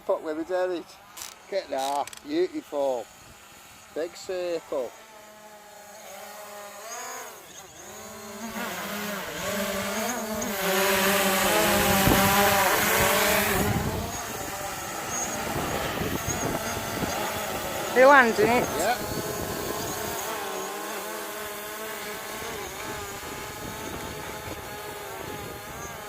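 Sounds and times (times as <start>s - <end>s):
quadcopter drone propellers whining: 0.0s - 26.0s.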